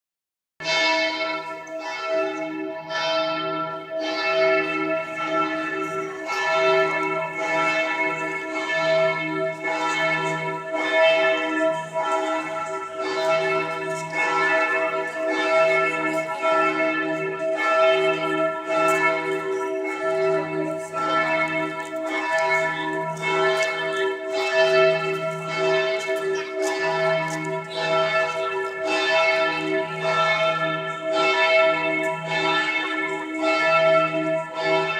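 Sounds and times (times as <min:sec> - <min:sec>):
church bells pealing: 0:00.6 - 0:34.9.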